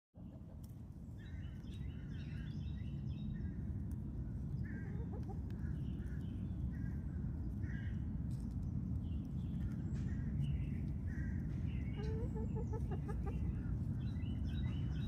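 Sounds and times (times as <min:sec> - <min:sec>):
steady low rumble: 0:00.2 - 0:15.0.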